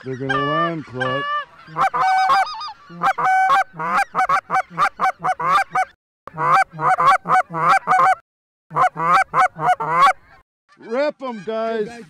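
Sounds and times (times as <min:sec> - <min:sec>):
goose call honks and clucks: 0:00.0 - 0:11.9.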